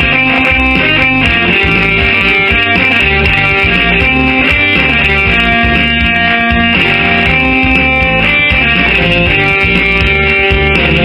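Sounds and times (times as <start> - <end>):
instrumental band music on keyboards: 0.0 - 11.0.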